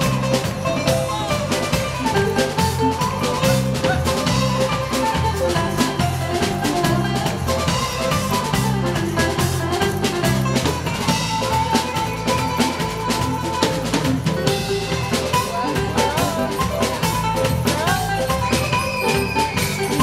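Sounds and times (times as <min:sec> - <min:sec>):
drum kit beat: 0:00.0 - 0:20.0
live band playing dance music: 0:00.0 - 0:20.0.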